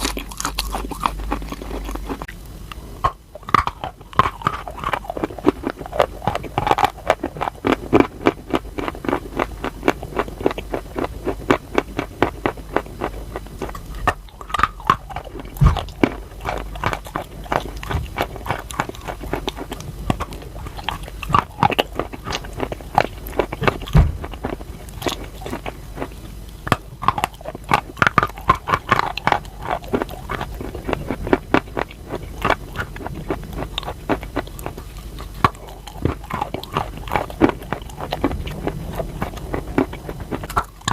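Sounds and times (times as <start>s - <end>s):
person chewing crunchy chalk: 0.0s - 40.9s.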